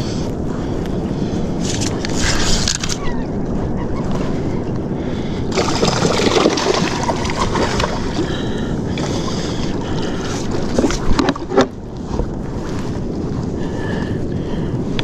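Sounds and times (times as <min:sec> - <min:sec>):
water lapping around kayak: 0:00.0 - 0:15.0
wind buffeting microphone: 0:00.0 - 0:15.0.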